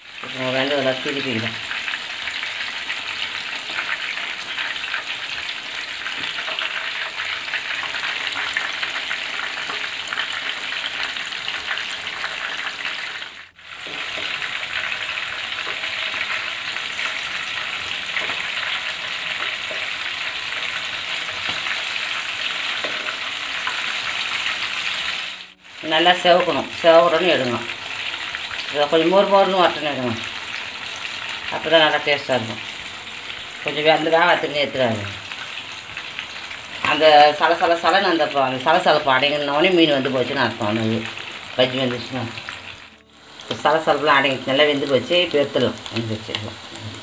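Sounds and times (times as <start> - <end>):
fish deep-frying in hot oil: 0.0 - 47.0.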